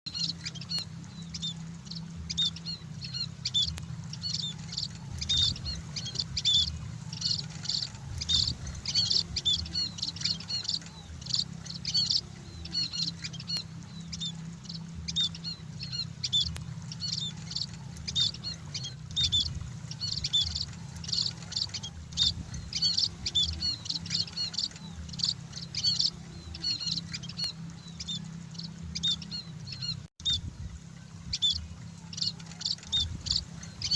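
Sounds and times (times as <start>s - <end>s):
bird chirping: 0.1s - 33.9s
low rumble: 0.1s - 33.9s.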